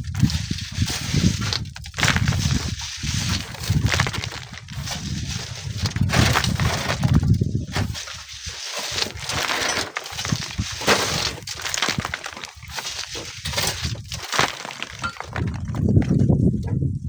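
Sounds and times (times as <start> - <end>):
falling stones clattering: 0.0 - 16.4.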